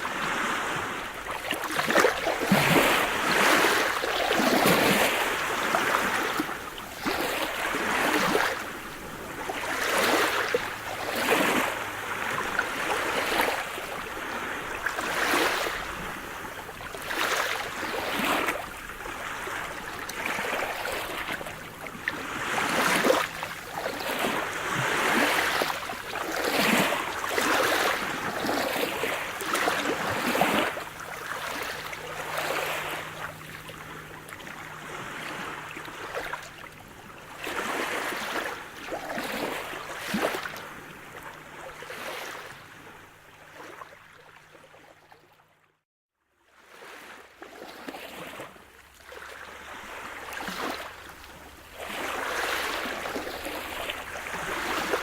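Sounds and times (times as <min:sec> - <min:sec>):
sea waves washing: 0:00.0 - 0:42.9, 0:49.6 - 0:55.0.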